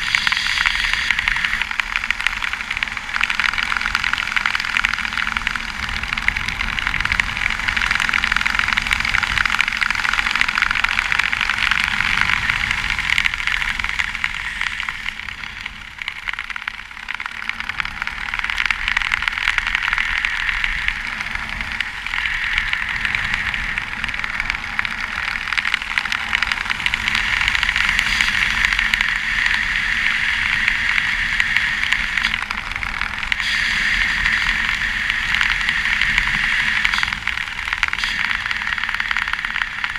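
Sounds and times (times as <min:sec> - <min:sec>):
wind rushing over microphone: 0:00.0 - 0:16.5, 0:17.5 - 0:39.9.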